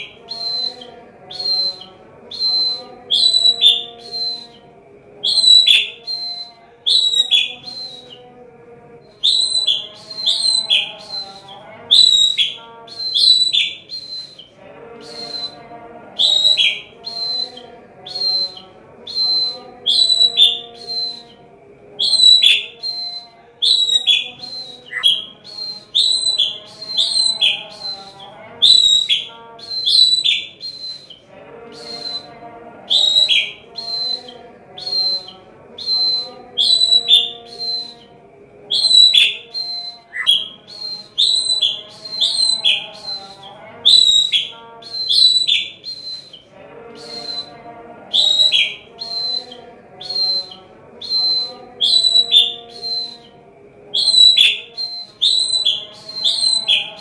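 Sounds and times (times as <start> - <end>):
bird chipping notes: 0.0 - 8.4, 9.1 - 38.1, 38.7 - 53.3, 54.0 - 57.0.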